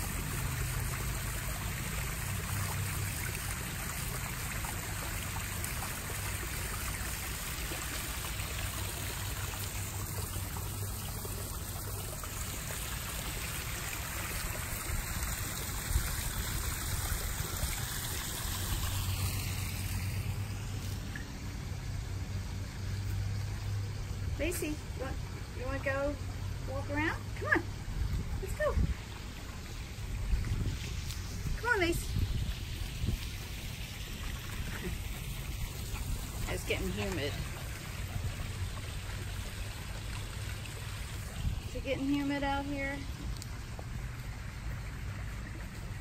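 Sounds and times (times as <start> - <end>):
waterfall splashing into pond: 0.0 - 46.0.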